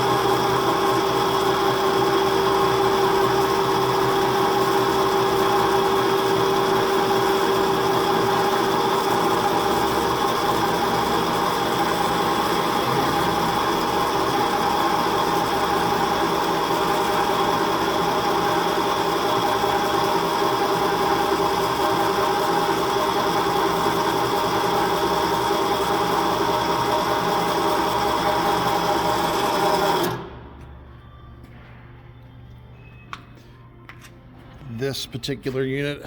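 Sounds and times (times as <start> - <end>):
electric motor and gearing whine: 0.0 - 33.4.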